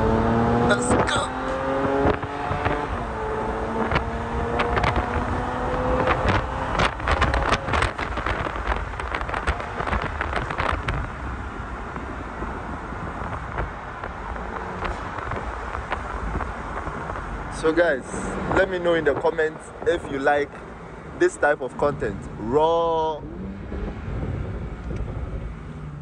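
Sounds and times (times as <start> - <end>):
car engine pulling away: 0.0 - 19.2, 20.4 - 26.0
wind buffeting microphone: 0.0 - 26.0.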